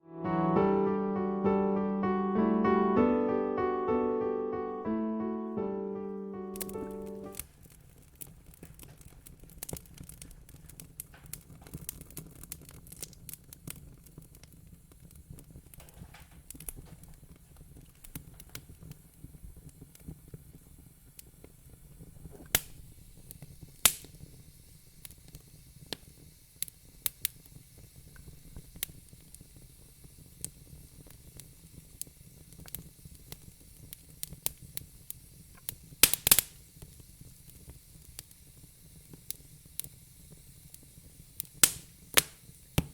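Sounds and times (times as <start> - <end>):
wood fire crackling and popping: 6.5 - 42.9.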